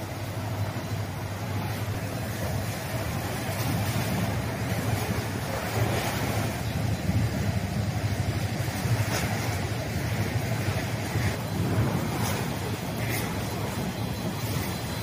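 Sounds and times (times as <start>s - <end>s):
waterfront ambience: 0.0s - 15.0s
wind buffeting microphone: 0.0s - 15.0s.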